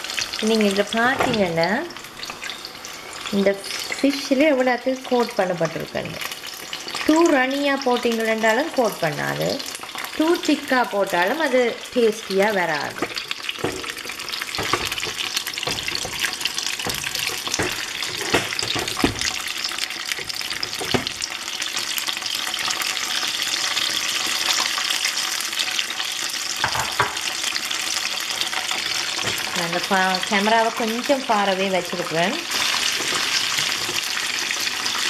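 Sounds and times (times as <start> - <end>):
fish frying in hot oil: 0.0 - 35.0.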